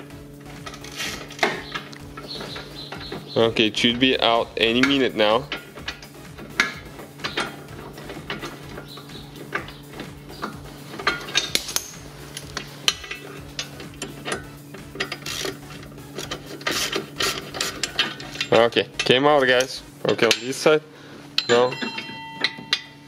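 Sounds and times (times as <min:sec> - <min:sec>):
wrench clicking and scraping on metal: 0:00.5 - 0:23.0.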